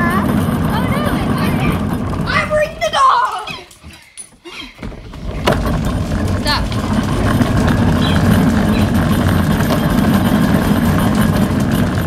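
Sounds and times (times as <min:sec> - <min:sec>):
plastic toy wheels rolling on floor: 0:00.0 - 0:12.0.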